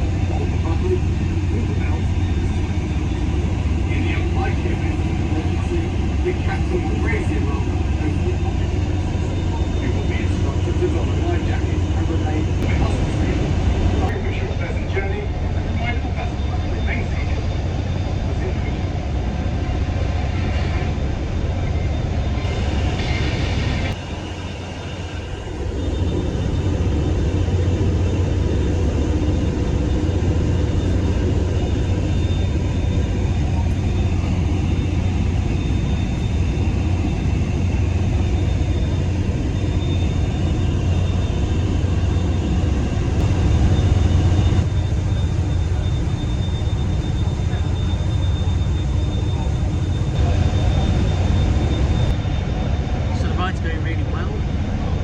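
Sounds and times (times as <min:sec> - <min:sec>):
hovercraft engine low rumble: 0:00.0 - 0:55.0.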